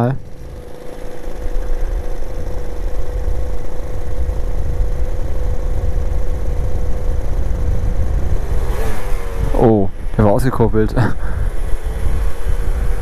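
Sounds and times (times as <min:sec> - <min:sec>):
scooter engine cruising: 0:00.0 - 0:13.0
wind rumble on microphone: 0:01.4 - 0:13.0.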